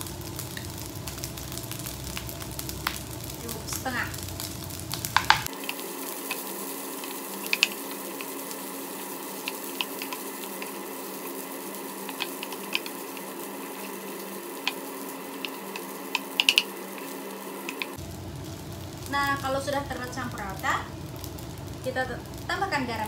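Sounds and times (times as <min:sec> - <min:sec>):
rice sizzling in frying pan: 0:00.0 - 0:23.0.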